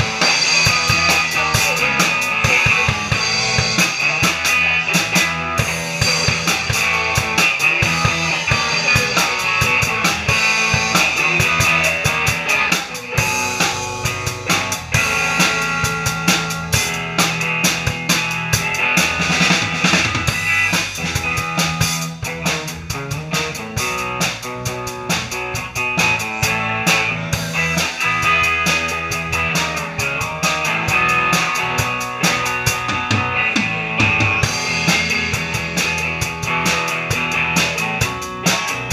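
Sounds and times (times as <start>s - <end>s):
drum kit beat: 0.0s - 38.9s
electric guitars: 0.0s - 38.9s.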